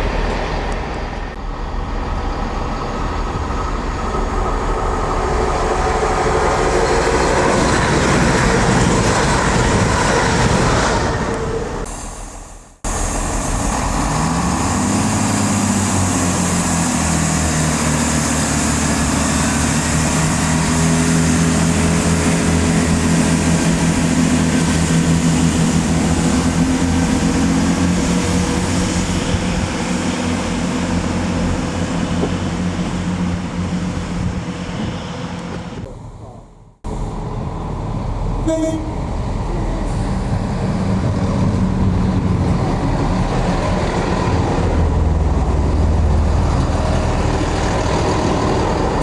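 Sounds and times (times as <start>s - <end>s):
diesel train engine running: 0.0s - 49.0s
wheel and rail noise: 0.0s - 49.0s.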